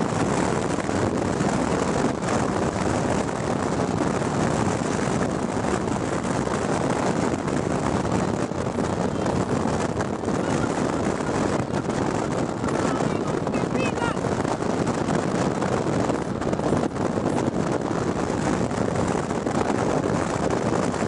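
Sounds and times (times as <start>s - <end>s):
rushing air: 0.0s - 21.0s
vehicle engine: 0.0s - 21.0s.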